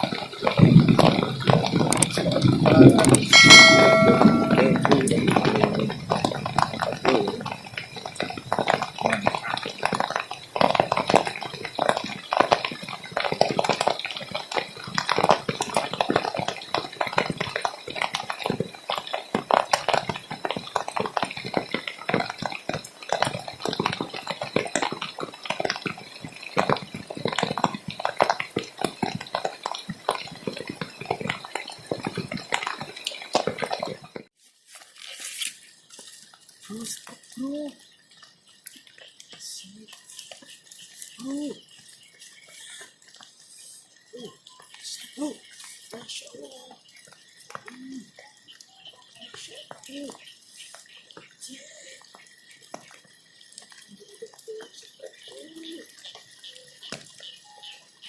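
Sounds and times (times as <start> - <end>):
heavy rain pattering: 0.0 - 34.3, 36.6 - 58.0.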